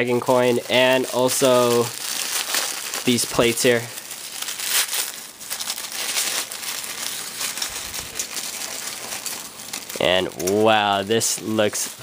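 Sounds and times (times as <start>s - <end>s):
tissue paper crinkling: 0.0s - 12.0s.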